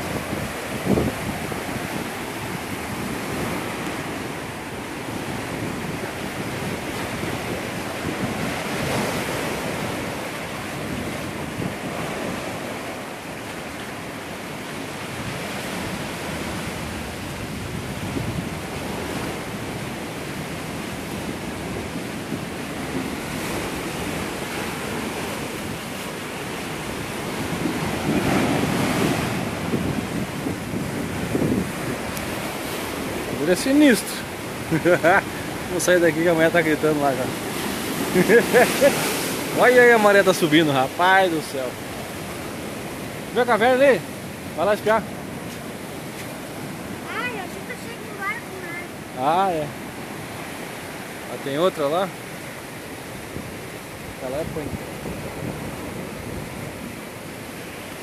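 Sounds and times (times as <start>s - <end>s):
wind buffeting microphone: 0.0s - 41.2s, 52.3s - 58.0s
sea surf surging through rocks: 0.0s - 58.0s.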